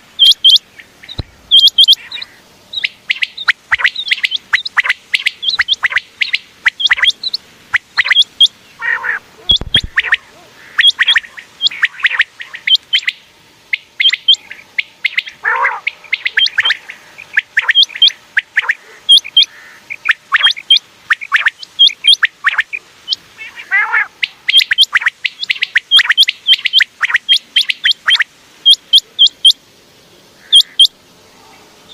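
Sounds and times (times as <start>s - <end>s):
quail chirping: 0.0s - 29.6s, 30.4s - 31.0s.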